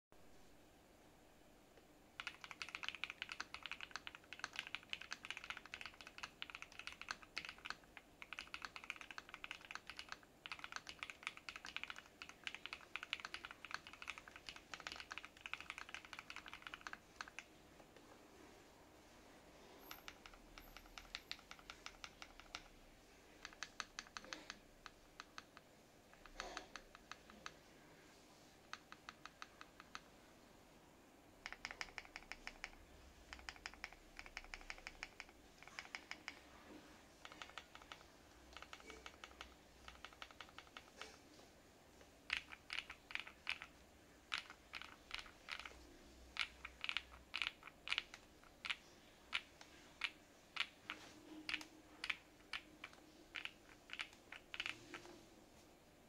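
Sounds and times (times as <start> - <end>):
mechanical keyboard typing: 2.2 - 17.5, 19.8 - 27.6, 28.7 - 30.1, 31.4 - 36.5, 37.1 - 41.2, 42.2 - 55.1.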